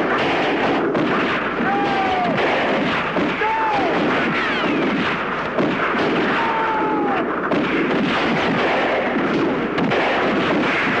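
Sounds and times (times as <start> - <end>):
rifle gunfire: 0.0 - 11.0.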